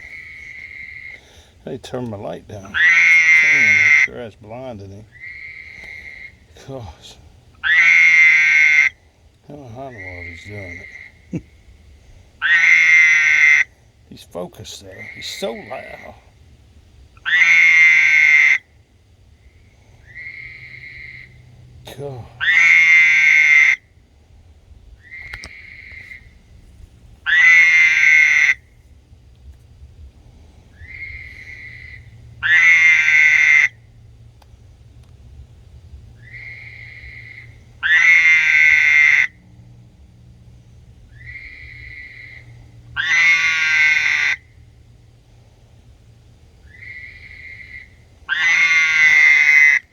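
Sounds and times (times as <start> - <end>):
frog calling: 0.0 - 24.2, 24.9 - 26.6, 27.2 - 28.8, 30.7 - 34.0, 36.1 - 39.7, 41.0 - 45.0, 46.5 - 49.9.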